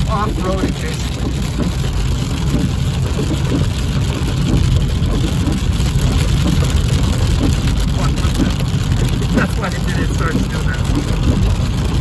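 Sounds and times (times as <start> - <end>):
heavy rain on a car: 0.0 - 12.0
road and engine rumble: 0.0 - 12.0.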